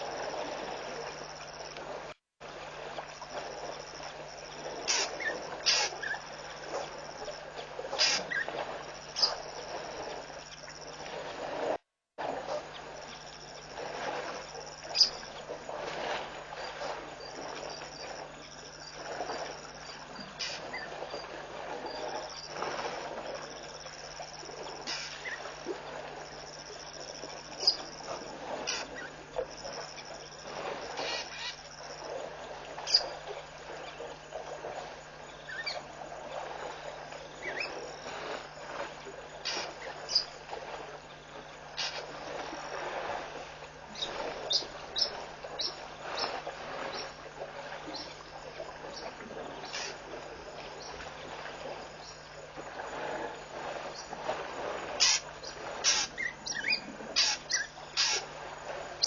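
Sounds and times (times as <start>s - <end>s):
elephants splashing and shuffling: 0.0s - 59.0s
high insect trills: 3.0s - 11.5s, 12.7s - 59.0s.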